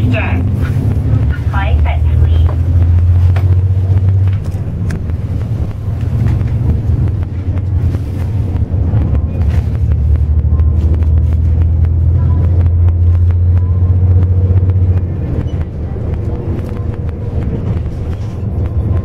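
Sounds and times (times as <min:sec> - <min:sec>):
bus engine low drone: 0:00.0 - 0:19.0.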